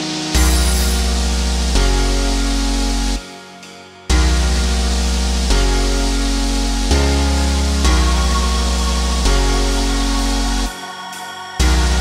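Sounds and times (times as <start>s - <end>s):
sustained chords over deep bass: 0.0s - 3.3s, 4.0s - 12.0s.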